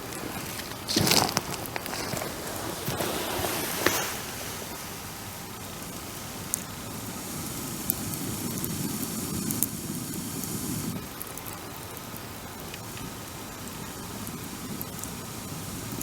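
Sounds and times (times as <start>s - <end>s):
fire crackling and popping: 0.0s - 16.0s
rush of bonfire flames: 0.0s - 16.0s.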